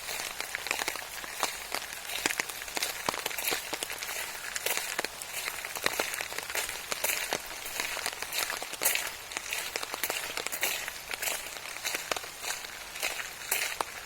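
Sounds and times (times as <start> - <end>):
rain falling: 0.0 - 14.0
raindrops ticking on surface: 0.0 - 14.0.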